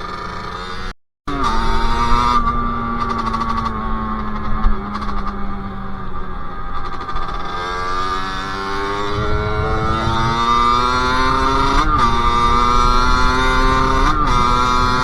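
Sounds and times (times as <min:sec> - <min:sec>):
two-stroke engine accelerating: 0:00.0 - 0:15.0.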